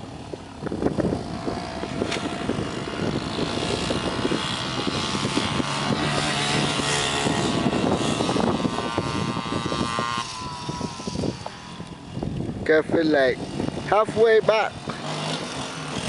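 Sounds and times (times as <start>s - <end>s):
small engines racing: 0.0s - 16.0s.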